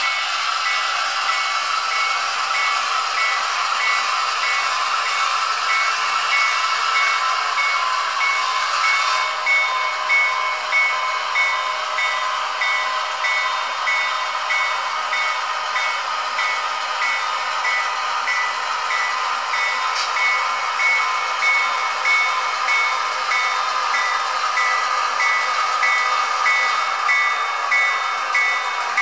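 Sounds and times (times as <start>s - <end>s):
locomotive bell ringing: 0.0s - 29.0s
model locomotive engine hum: 0.0s - 29.0s.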